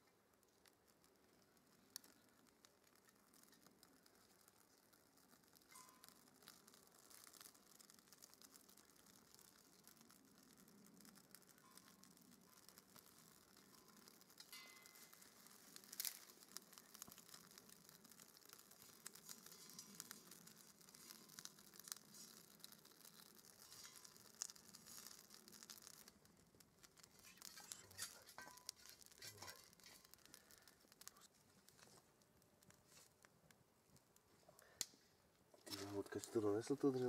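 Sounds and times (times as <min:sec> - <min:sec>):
small wood fire crackling: 0:00.0 - 0:37.0.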